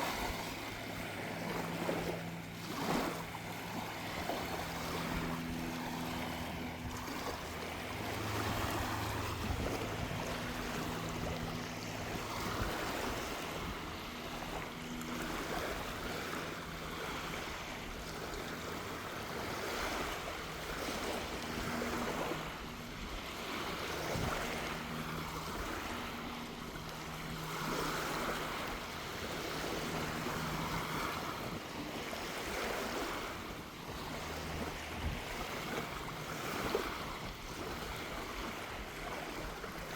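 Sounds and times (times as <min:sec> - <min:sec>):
sea breeze: 0:00.0 - 0:39.9
small waves on sandy shore: 0:00.0 - 0:39.9.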